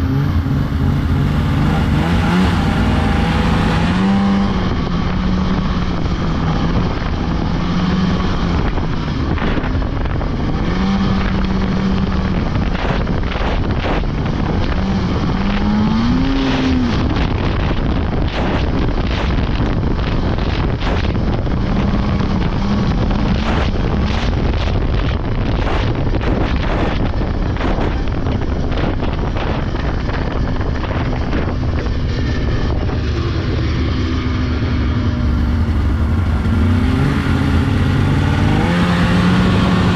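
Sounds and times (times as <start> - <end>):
snowmobile engine running: 0.0 - 39.9
wind on microphone: 0.0 - 39.9.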